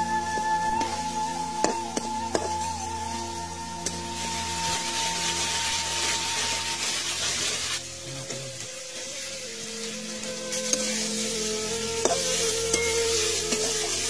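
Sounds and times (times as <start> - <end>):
background music: 0.0 - 14.0
fish sizzling in hot oil: 0.0 - 14.0.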